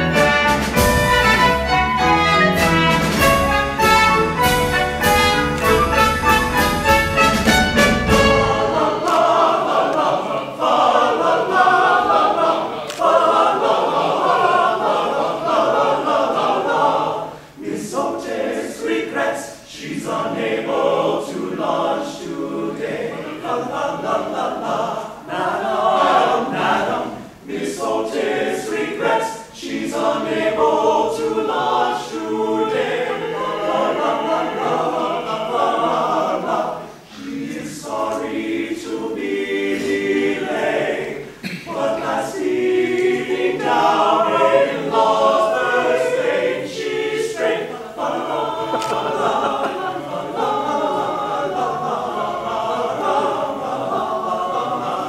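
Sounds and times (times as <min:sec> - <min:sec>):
men's chorus singing in harmony: 0:03.1 - 0:55.0.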